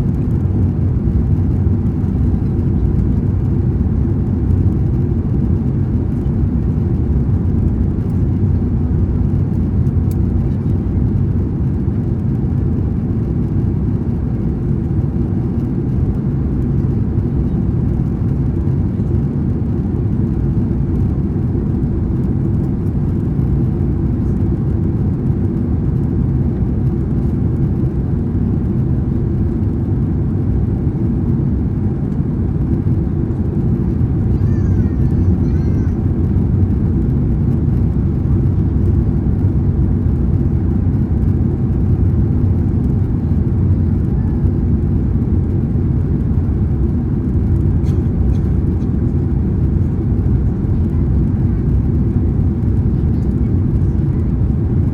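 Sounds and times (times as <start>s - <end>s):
airliner cabin engine rumble: 0.0s - 54.9s.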